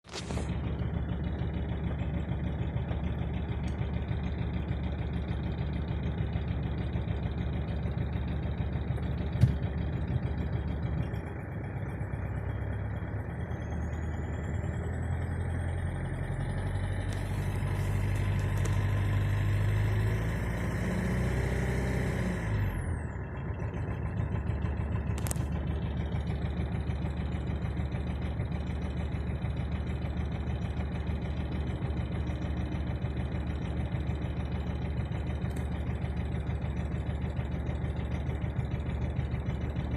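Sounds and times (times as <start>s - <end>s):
diesel engine idling with knock: 0.1s - 39.9s.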